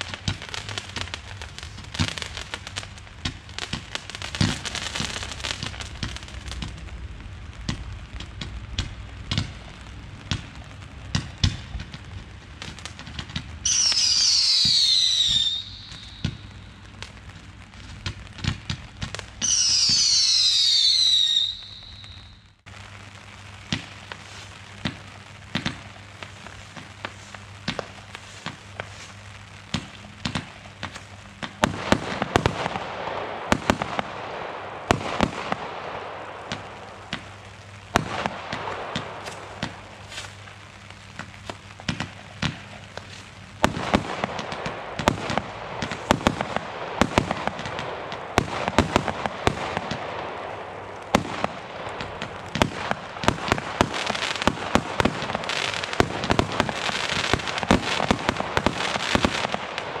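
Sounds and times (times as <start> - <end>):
fireworks bangs: 0.0 - 60.0
fireworks hissing and crackling: 0.0 - 60.0.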